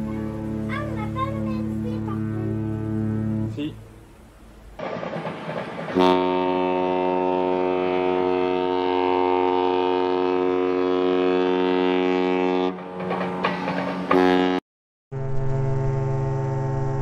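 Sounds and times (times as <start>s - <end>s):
ship horn long blast: 0.0s - 4.0s, 5.9s - 12.9s, 14.1s - 17.0s.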